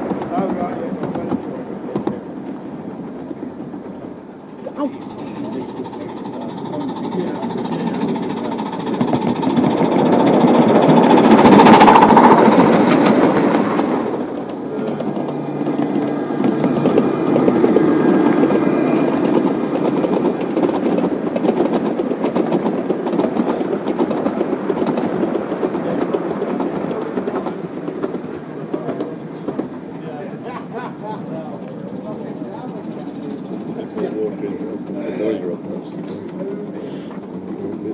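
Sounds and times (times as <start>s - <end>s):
model train wheels rumbling on track: 0.0s - 37.9s.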